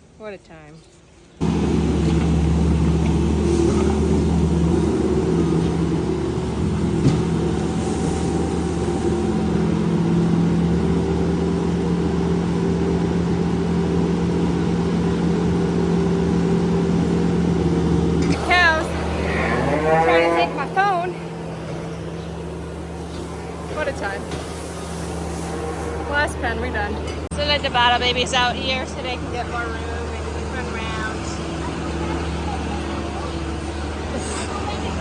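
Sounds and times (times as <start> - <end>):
engine running steadily: 1.4 - 35.0.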